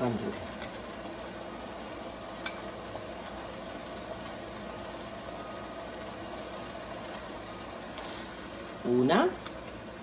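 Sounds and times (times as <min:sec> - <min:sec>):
ham sizzling in a pot: 0:00.0 - 0:10.0.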